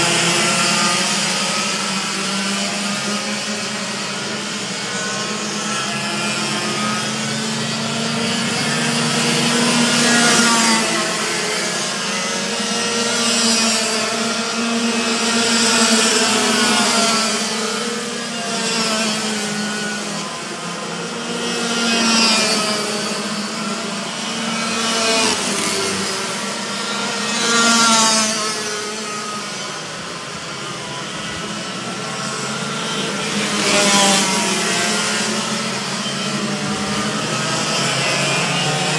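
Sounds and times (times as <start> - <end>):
kart engines buzzing: 0.0 - 38.9.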